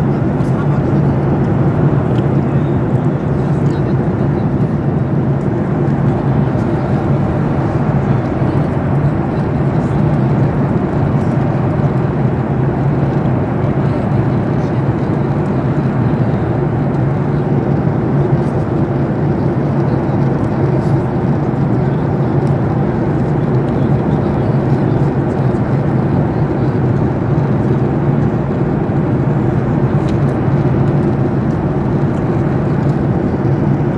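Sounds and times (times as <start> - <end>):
airliner cabin engine drone: 0.0 - 33.9.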